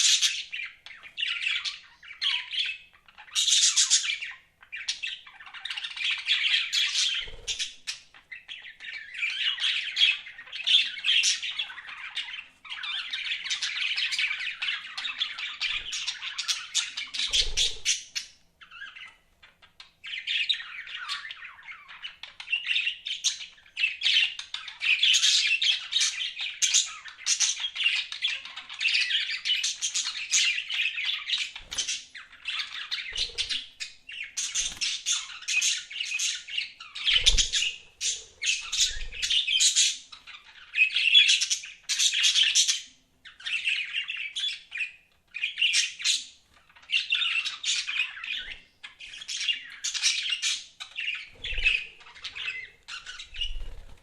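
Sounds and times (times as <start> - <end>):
budgerigars chattering: 0.0 - 19.2, 20.0 - 54.0.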